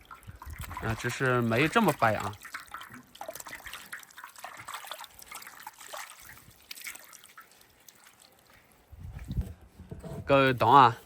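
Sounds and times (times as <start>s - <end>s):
water trickling and dripping: 0.0s - 9.6s.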